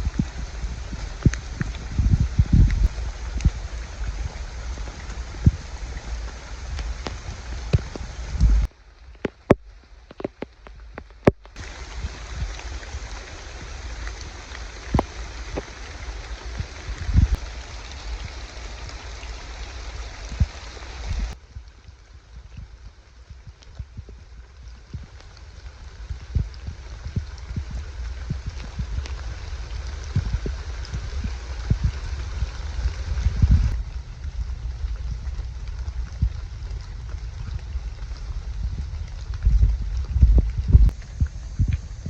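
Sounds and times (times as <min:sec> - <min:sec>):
heavy rain falling: 0:00.0 - 0:42.0
water drips ticking: 0:00.0 - 0:42.0.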